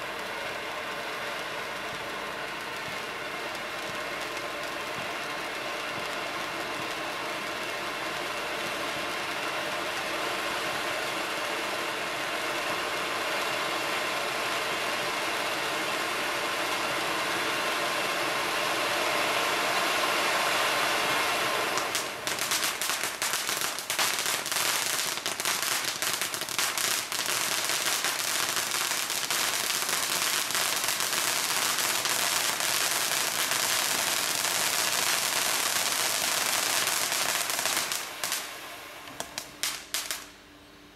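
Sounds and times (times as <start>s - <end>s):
firework crackling: 0.0s - 40.5s
firework fountain hissing: 0.0s - 40.5s.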